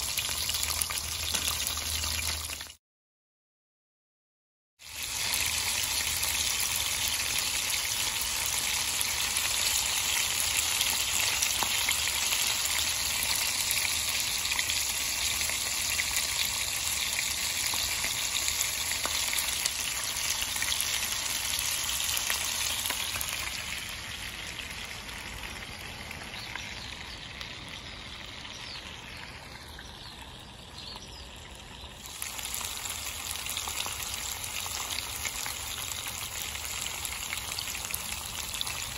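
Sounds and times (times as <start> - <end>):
hot oil sizzling: 0.0 - 2.8, 4.8 - 38.9.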